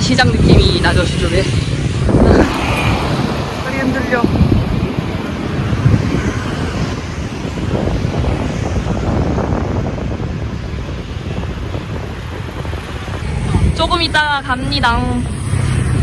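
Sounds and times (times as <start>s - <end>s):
road traffic noise: 0.0s - 16.0s
wind rumbling on microphone: 0.0s - 16.0s.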